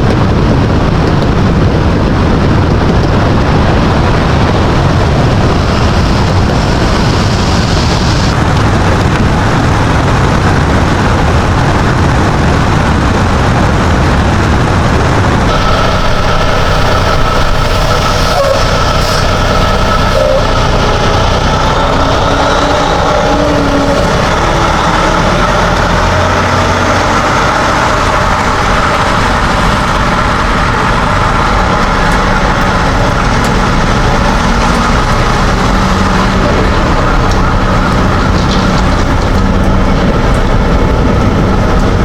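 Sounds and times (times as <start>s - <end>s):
vehicle engine and road rumble: 0.0s - 42.0s
droning tones: 0.2s - 42.0s.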